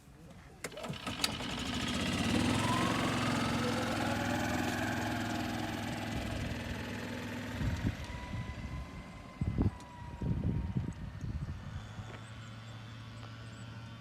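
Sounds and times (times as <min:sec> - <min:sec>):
small engine running: 0:00.7 - 0:14.0
faint whine rising in pitch: 0:02.2 - 0:14.0.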